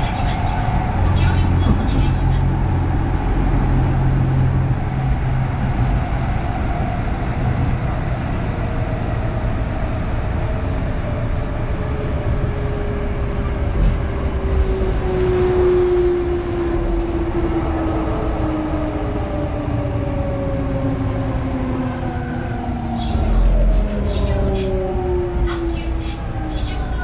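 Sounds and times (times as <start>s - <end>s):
train inverter whine: 0.0s - 27.0s
wheel and rail rumble: 0.0s - 27.0s.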